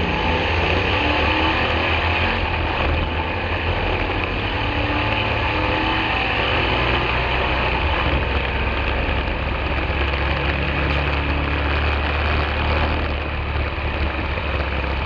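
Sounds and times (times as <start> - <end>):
truck engine rumbling at low revs: 0.0 - 15.0.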